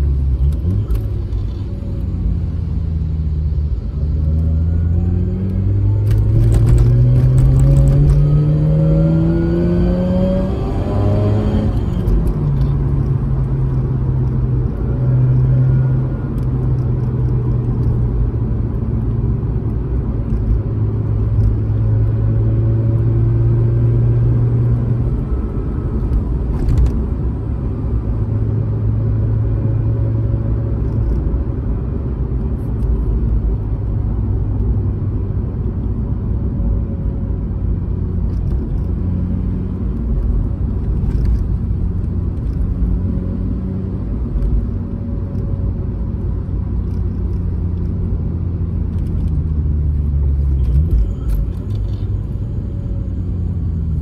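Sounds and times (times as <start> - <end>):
car engine while driving: 0.0 - 54.0
road rumble: 0.0 - 54.0.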